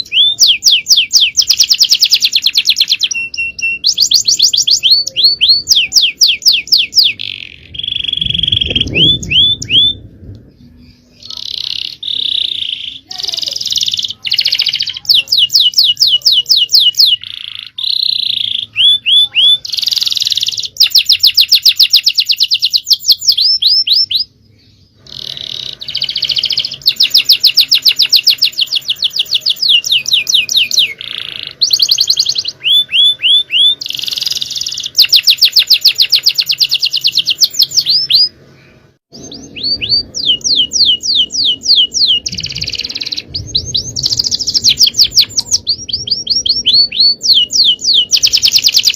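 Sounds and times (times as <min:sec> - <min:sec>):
canary singing in fast trills: 0:00.0 - 0:48.9.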